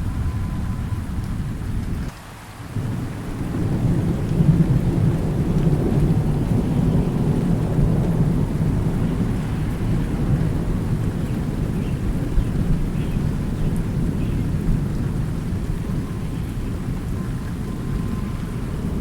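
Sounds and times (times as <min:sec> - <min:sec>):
rolling thunder: 0:00.0 - 0:02.1, 0:02.7 - 0:19.0
steady rain: 0:00.0 - 0:19.0.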